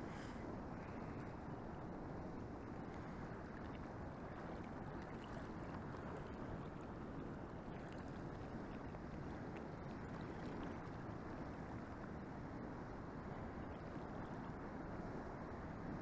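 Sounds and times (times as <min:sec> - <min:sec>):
moving water: 0:00.0 - 0:16.0
wind: 0:00.0 - 0:16.0.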